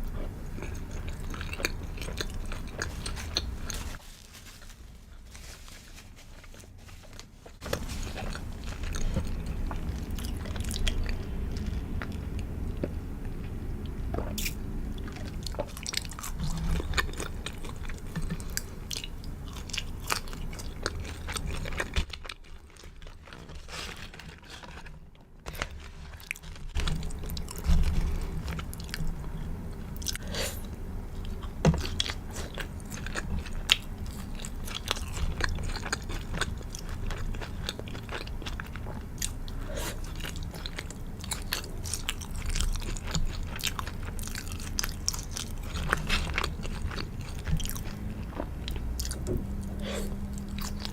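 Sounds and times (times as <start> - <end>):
chewing crispy fried food: 0.0 - 50.9.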